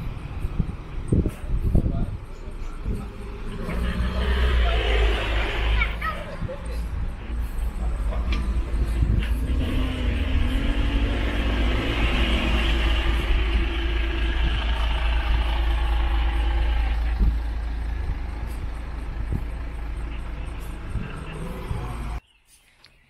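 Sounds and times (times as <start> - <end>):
bus engine low rumble: 0.0 - 22.2.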